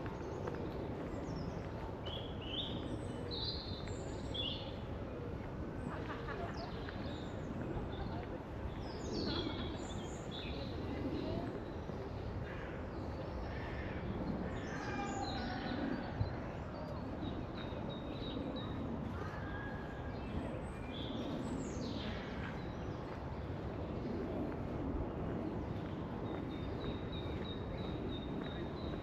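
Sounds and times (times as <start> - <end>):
outdoor background noise: 0.0 - 29.0.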